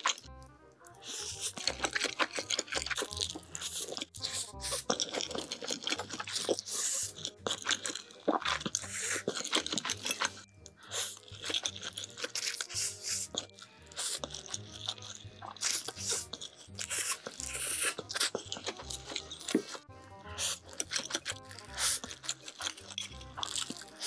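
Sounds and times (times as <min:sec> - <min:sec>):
chewing and smacking: 0:00.0 - 0:24.0
faint background music: 0:00.0 - 0:24.0
noodle slurping: 0:00.9 - 0:24.0.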